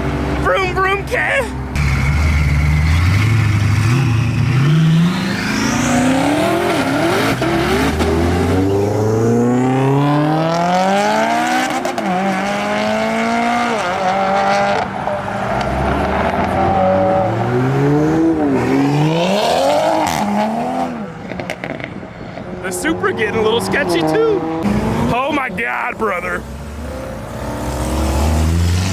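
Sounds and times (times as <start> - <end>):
car engine revving: 1.6 - 28.9.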